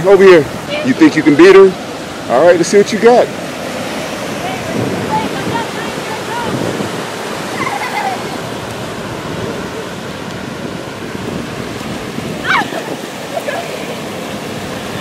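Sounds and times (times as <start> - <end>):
ocean surf washing on beach: 0.0 - 15.0
wind buffeting microphone: 0.0 - 15.0.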